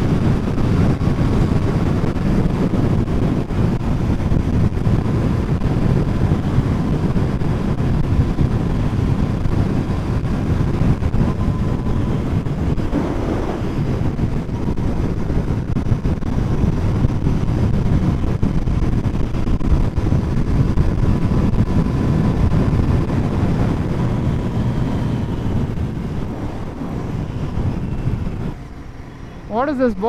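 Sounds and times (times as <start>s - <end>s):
motorcycle engine at speed: 0.0s - 29.9s
wind rushing over microphone: 0.0s - 30.0s.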